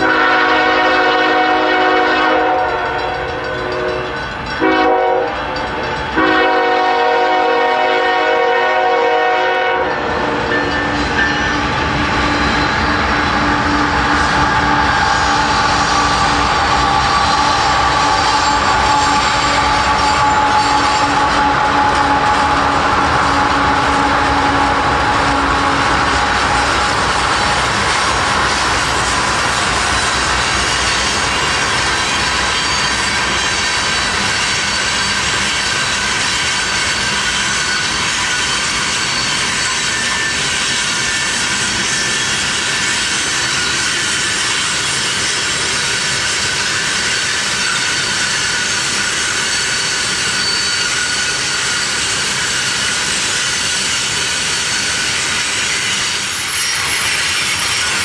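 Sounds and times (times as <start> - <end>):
freight cars rolling on rails: 0.0 - 58.0
high wheel squeal: 0.0 - 58.0.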